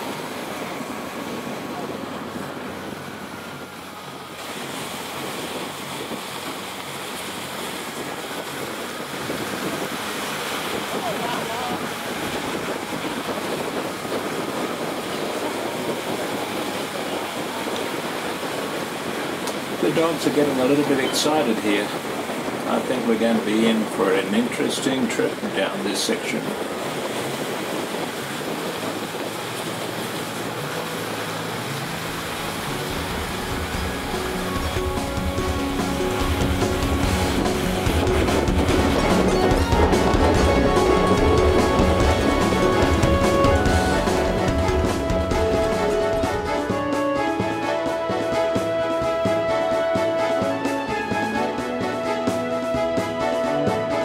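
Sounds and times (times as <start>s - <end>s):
sled gliding over snow: 0.0s - 54.0s
wind noise on microphone: 0.0s - 54.0s.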